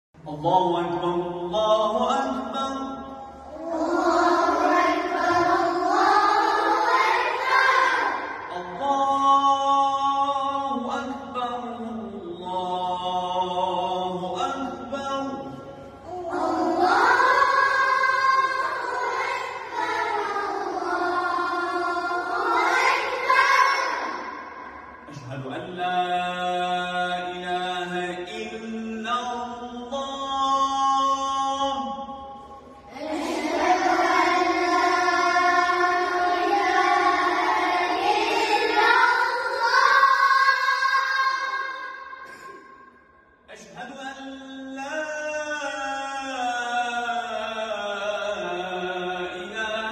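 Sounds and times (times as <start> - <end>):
boys chanting call to prayer: 0.2 - 49.9.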